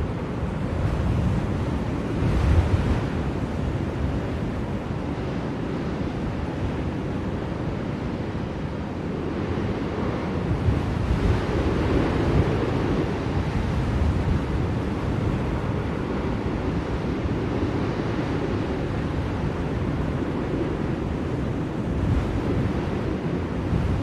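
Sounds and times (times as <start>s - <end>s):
blizzard wind blowing: 0.0s - 24.0s.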